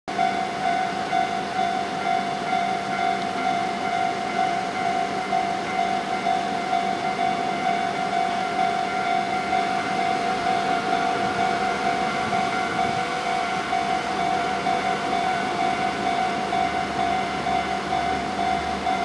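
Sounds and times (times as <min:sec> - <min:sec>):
level-crossing warning bell: 0:00.1 - 0:19.0.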